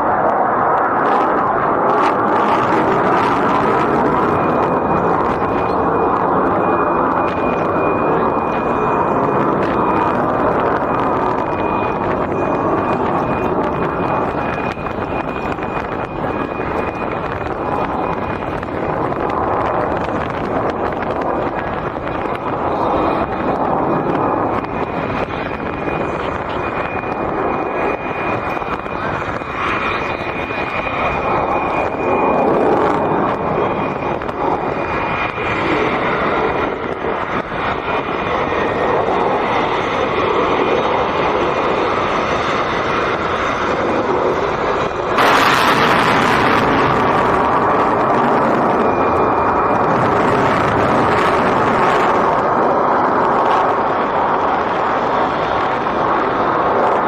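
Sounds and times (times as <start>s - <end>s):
fighter jet engine roar: 0.0s - 57.0s.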